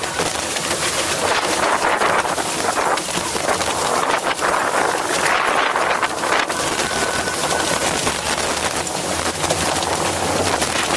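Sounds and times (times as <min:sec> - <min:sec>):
water spray hissing off hulls: 0:00.0 - 0:10.9
wind rushing over microphone: 0:01.2 - 0:10.9.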